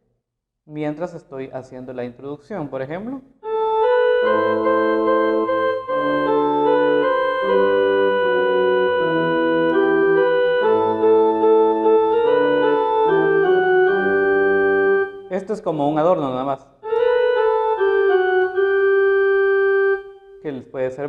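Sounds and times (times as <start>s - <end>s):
electronic keyboard organ hymn: 3.4s - 20.7s.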